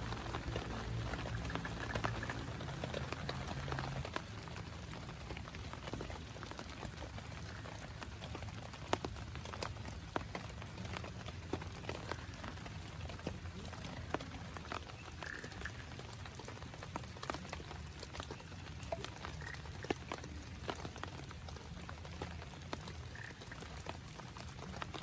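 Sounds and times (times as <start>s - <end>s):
drops ticking: 0.0s - 25.0s
rain falling steadily: 0.0s - 25.0s.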